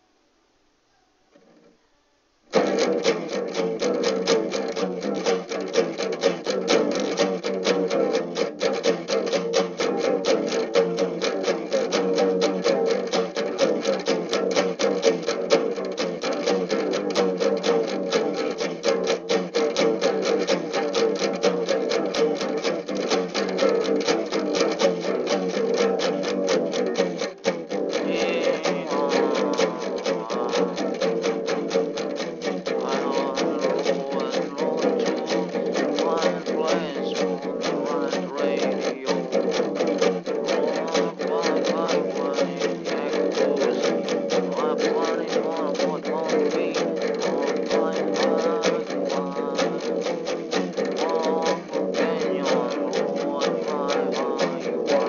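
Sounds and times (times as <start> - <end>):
fast strummed guitar: 2.5 - 55.0.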